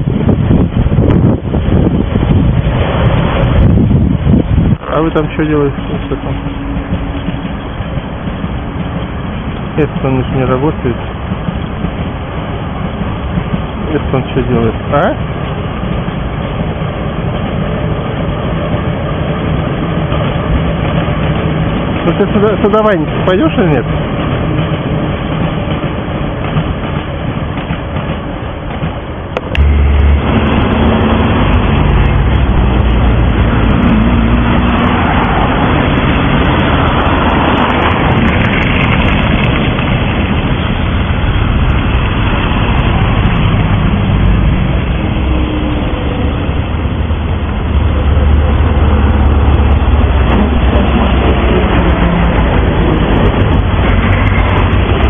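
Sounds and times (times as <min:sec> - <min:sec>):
train approaching deep rumble: 0:00.0 - 0:55.0
train wheels rumbling on rails: 0:00.0 - 0:55.0.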